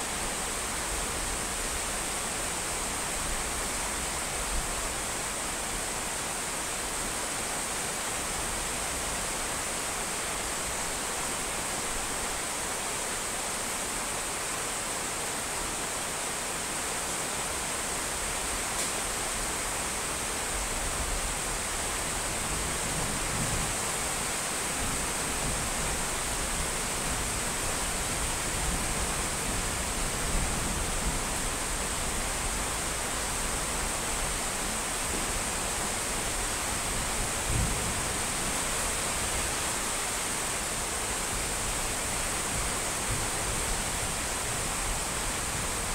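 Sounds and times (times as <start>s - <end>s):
rainfall hiss: 0.0s - 45.9s.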